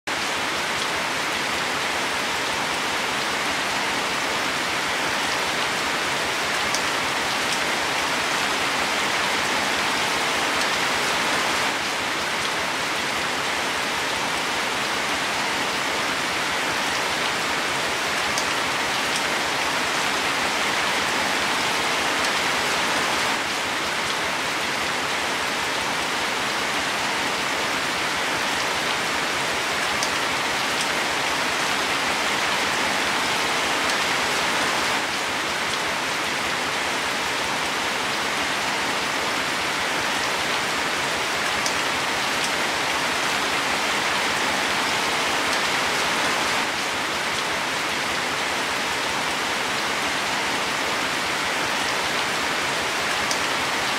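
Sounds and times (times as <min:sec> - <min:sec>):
rain falling on leafy plants: 0:00.0 - 0:53.9.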